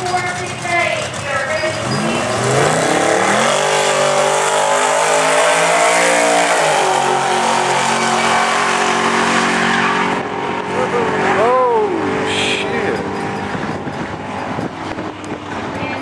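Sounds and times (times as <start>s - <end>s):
car engines at full throttle: 0.0s - 16.0s.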